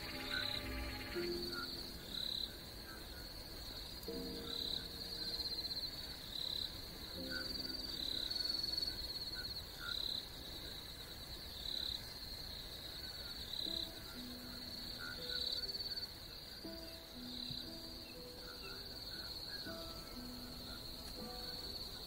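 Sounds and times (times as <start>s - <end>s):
night insects trilling: 0.0s - 22.0s.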